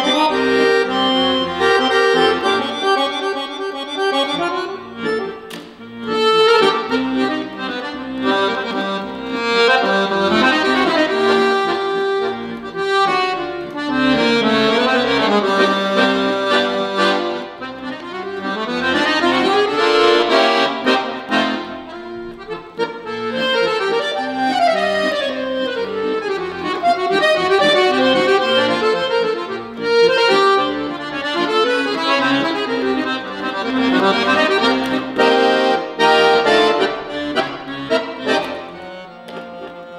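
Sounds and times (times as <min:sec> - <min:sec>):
piano accordion playing: 0:00.0 - 0:39.9.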